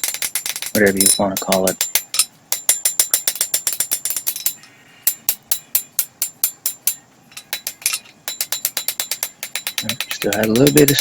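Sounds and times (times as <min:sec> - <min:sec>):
hammer striking steel on anvil: 0:00.0 - 0:11.0.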